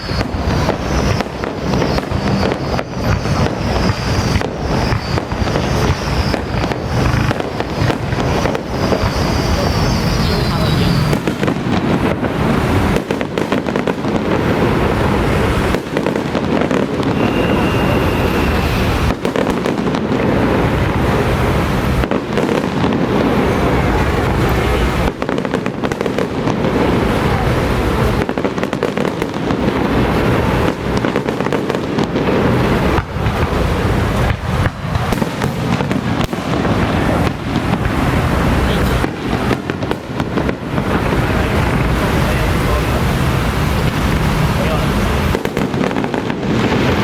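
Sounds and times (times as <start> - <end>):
firecrackers crackling: 0.0 - 47.0.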